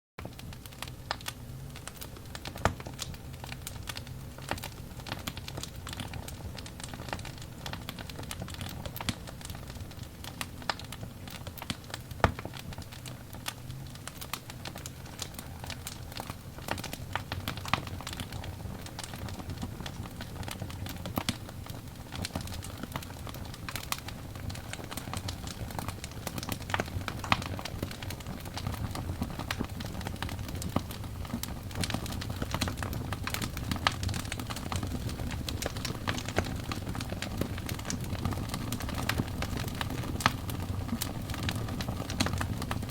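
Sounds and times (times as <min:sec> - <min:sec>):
burning logs crackling and popping: 0:00.2 - 0:42.9
low rumble of flames: 0:00.2 - 0:42.9.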